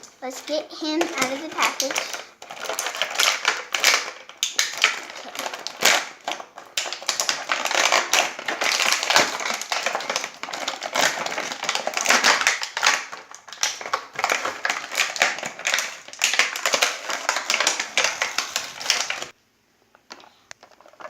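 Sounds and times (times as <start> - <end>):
toy packaging crinkling and snapping: 0.0 - 19.4.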